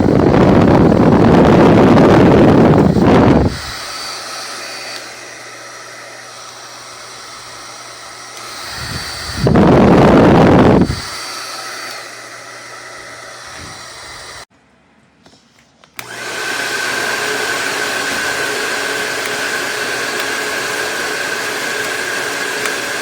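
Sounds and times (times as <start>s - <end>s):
hair dryer running: 0.0s - 14.5s, 16.0s - 23.0s.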